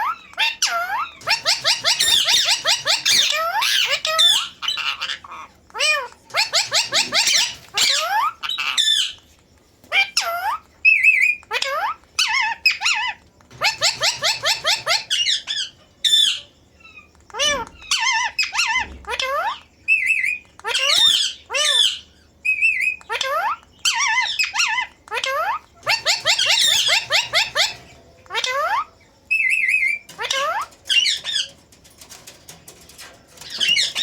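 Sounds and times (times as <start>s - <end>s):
parrot shrill chirps: 0.0s - 9.2s, 9.9s - 32.2s.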